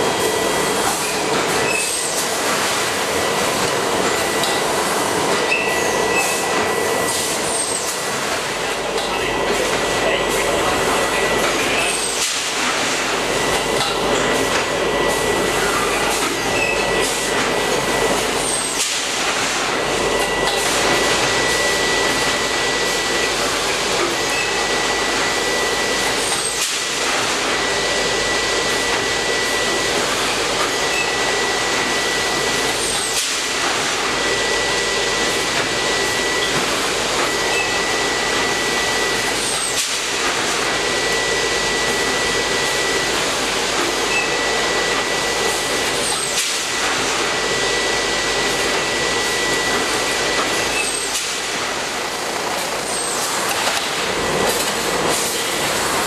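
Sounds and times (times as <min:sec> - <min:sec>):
bagging machine mechanical din: 0:00.0 - 0:56.0.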